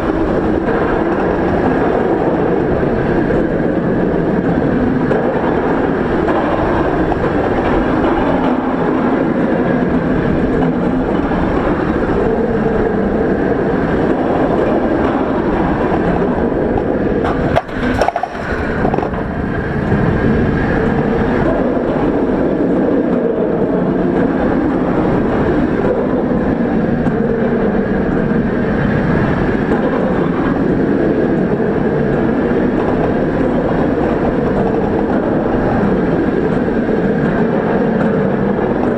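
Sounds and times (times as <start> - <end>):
wheels rumbling on rails: 0.0 - 38.9
wind rushing on microphone: 0.0 - 38.9.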